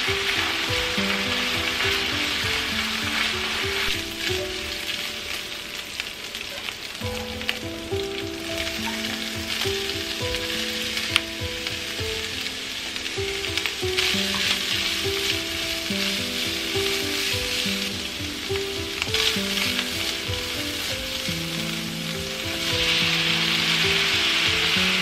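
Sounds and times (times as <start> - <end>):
meat and onions sizzling: 0.0 - 25.0.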